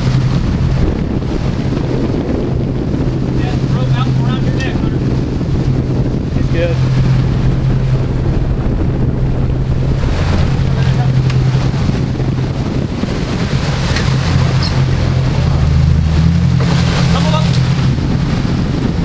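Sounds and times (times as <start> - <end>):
boat engines droning: 0.0 - 19.0
water churning: 0.0 - 19.0
wind buffeting the microphone: 0.0 - 19.0.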